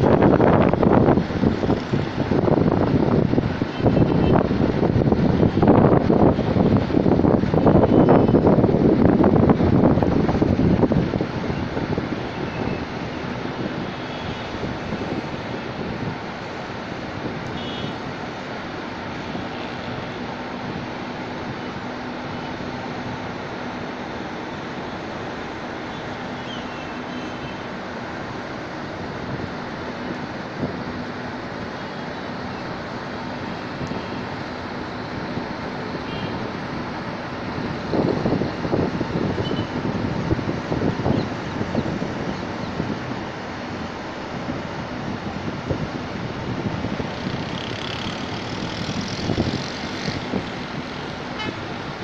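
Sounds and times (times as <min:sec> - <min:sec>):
wind buffeting microphone: 0:00.0 - 0:24.0, 0:32.3 - 0:52.0
city traffic: 0:00.0 - 0:52.0.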